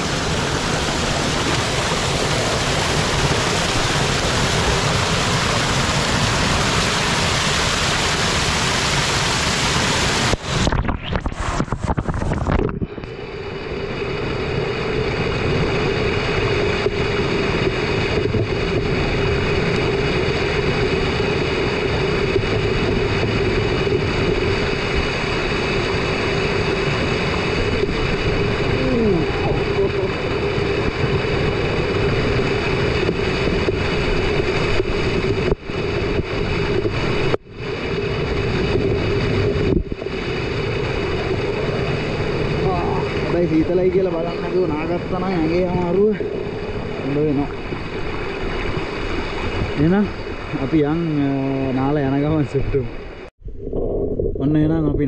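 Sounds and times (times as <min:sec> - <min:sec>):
mountain stream rushing: 0:00.0 - 0:53.3
low hum: 0:00.0 - 0:55.0.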